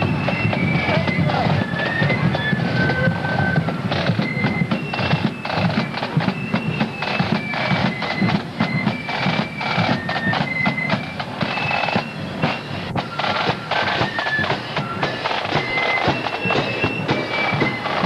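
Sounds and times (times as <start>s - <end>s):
cymbals: 0.0s - 18.0s
flute melody: 0.0s - 18.0s
side drum rolls: 0.0s - 18.0s.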